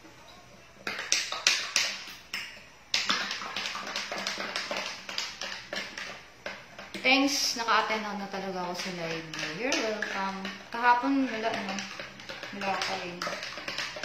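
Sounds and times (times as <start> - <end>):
utensil tapping hard surface: 0.8 - 14.0.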